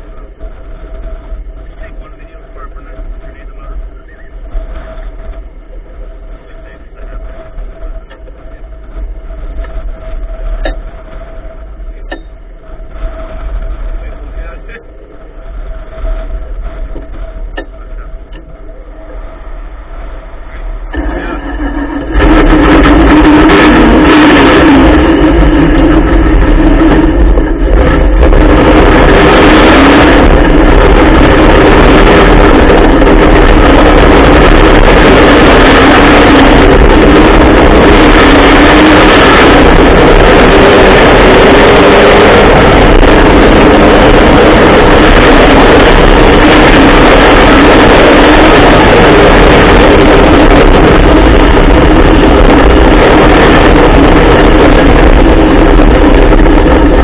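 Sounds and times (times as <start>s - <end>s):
truck engine running hard: 0.0s - 57.0s.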